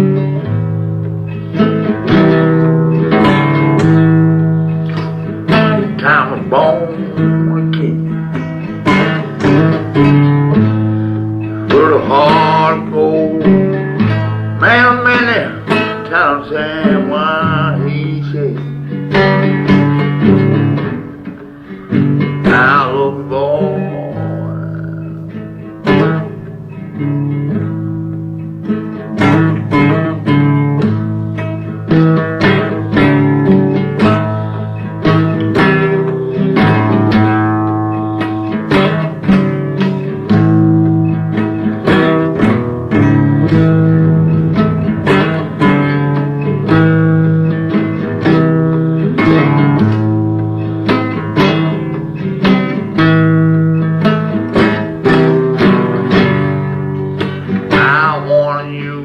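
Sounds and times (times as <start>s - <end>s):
blues guitar: 0.0s - 59.0s.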